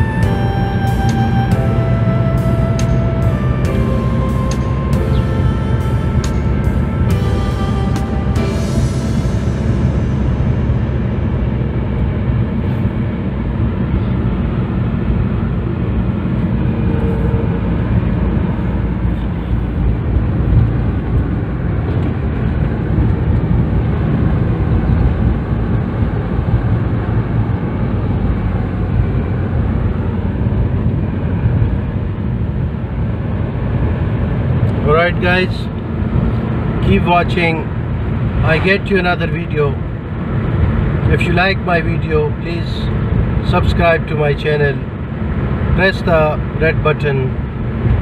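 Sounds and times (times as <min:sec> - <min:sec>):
car road and engine noise: 0:00.0 - 0:48.0.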